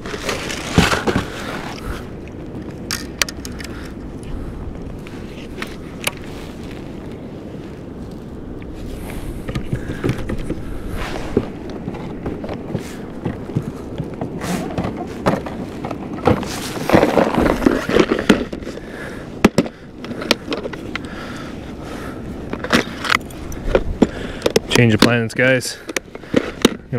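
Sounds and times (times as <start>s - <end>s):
water against kayak: 0.0s - 26.9s
wind: 0.0s - 26.9s.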